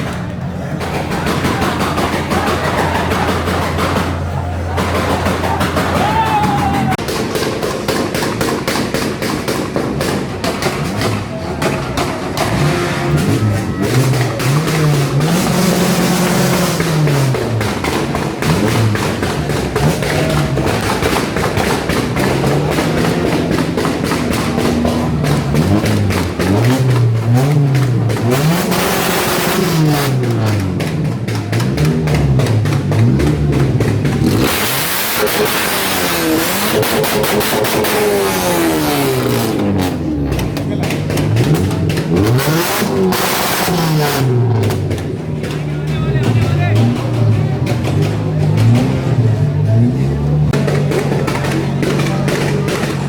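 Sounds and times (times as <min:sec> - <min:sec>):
car exhaust backfire bangs: 0:00.0 - 0:53.0.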